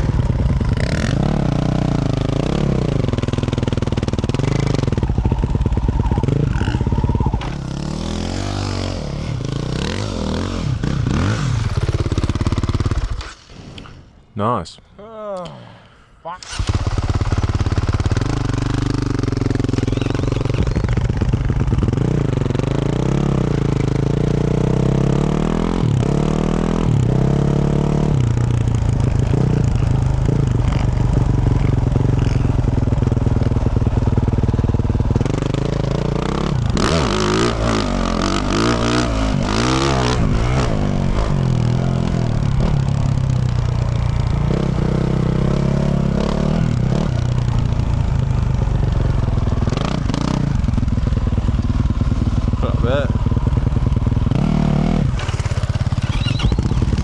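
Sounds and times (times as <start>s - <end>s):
motorcycle engine revving: 0.0s - 14.0s, 16.4s - 57.0s.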